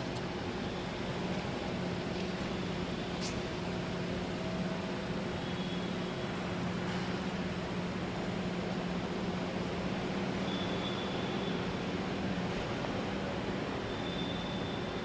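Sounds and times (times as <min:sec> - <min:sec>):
factory machinery hum and hiss: 0:00.0 - 0:15.0.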